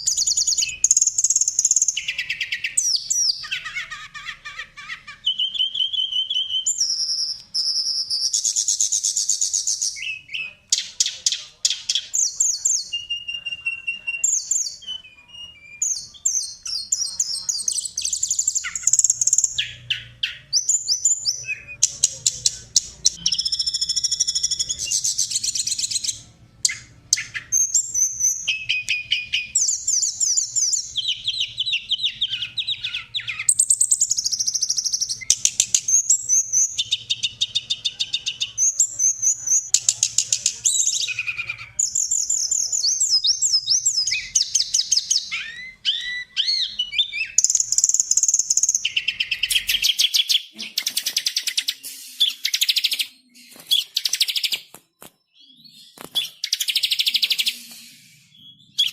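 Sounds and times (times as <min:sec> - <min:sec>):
songbird trills and chirping: 0:00.0 - 0:58.9.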